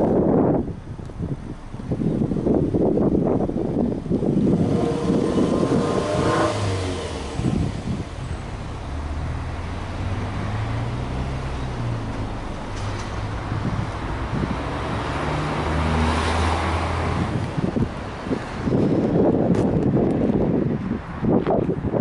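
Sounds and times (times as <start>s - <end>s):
car engine revving and idling: 0.0s - 20.5s.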